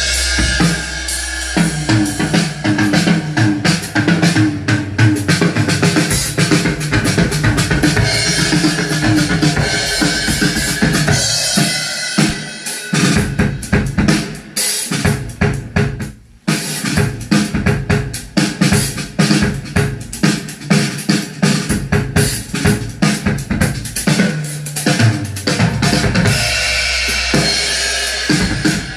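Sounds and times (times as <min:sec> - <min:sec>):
drum-heavy music with kick and snare: 0:00.0 - 0:28.9.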